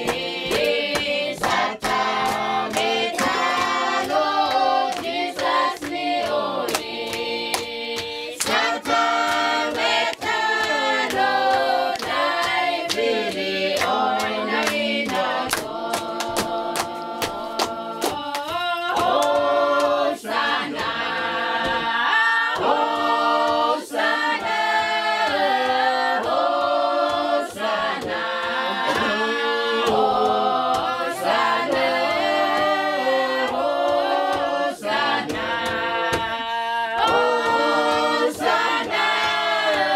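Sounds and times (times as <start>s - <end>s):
choir singing unaccompanied: 0.0s - 39.9s.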